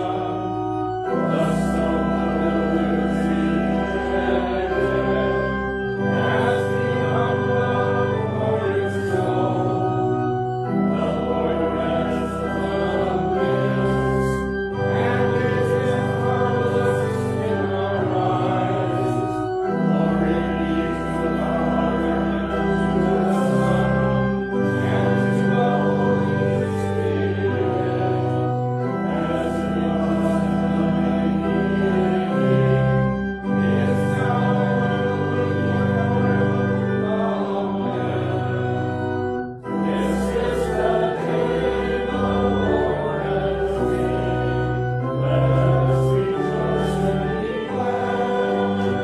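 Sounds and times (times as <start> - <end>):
organ playing hymn chords: 0.0 - 49.0
voices singing: 0.0 - 49.0.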